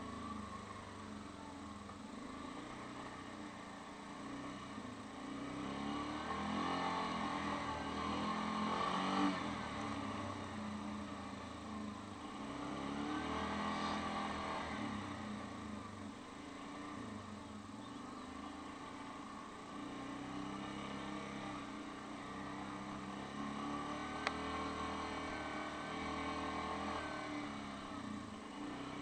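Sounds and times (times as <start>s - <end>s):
quad engine revving: 4.1s - 17.2s, 17.8s - 29.0s.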